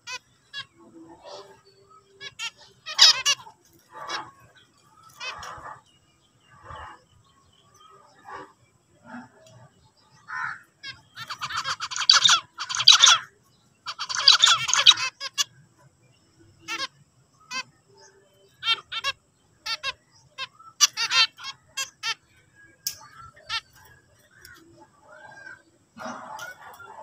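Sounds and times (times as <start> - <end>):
finches singing and calling: 0.0 - 27.0.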